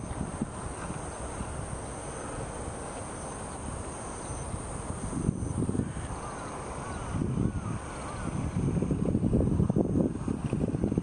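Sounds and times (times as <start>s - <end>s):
faint high whine: 0.0s - 10.1s.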